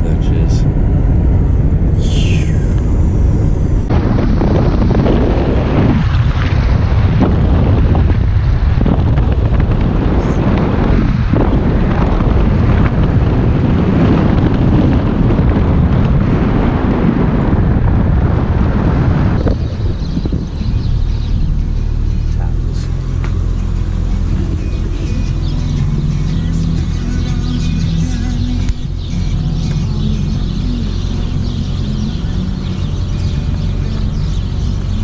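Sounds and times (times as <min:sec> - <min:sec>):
car road and engine noise: 0:00.0 - 0:35.0
wind buffeting microphone: 0:00.0 - 0:35.0.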